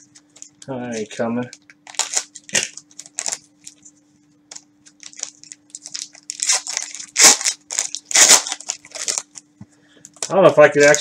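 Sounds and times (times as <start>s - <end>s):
plastic wrappers crinkling and tearing: 0.2s - 3.9s, 4.5s - 11.0s.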